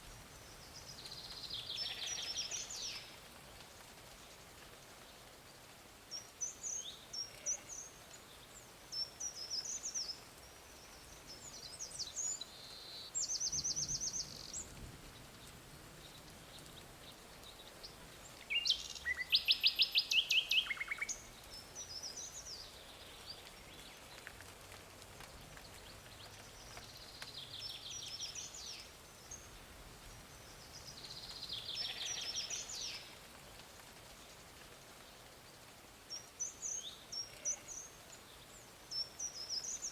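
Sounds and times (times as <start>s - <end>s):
background hiss: 0.0s - 39.9s
songbirds singing: 0.0s - 39.9s.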